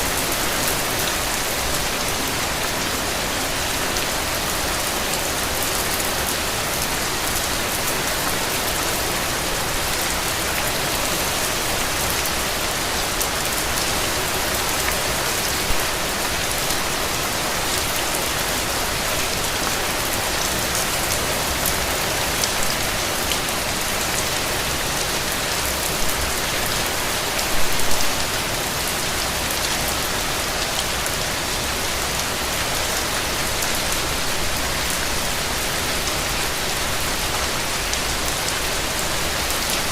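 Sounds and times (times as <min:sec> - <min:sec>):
loud rain spatters: 0:00.0 - 0:39.9.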